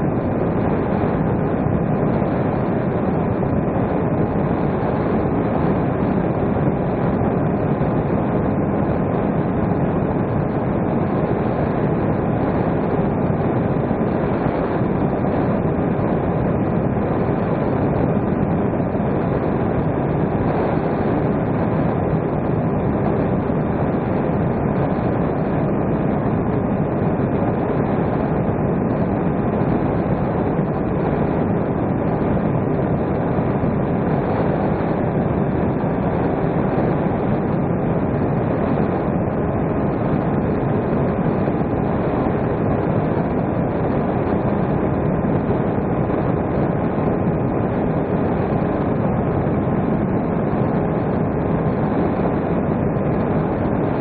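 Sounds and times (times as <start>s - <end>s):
faint motor whine: 0.0s - 54.0s.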